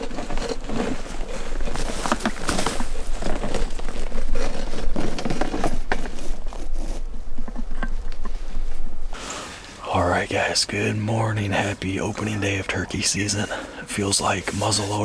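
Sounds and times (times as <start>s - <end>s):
close rustling and crinkling: 0.0s - 15.0s.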